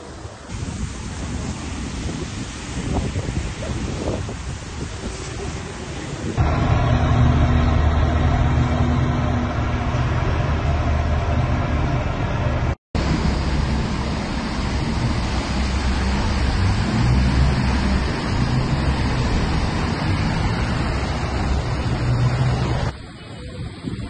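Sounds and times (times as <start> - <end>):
floodwater rushing: 0.0 - 24.0
wind noise on microphone: 0.0 - 24.0.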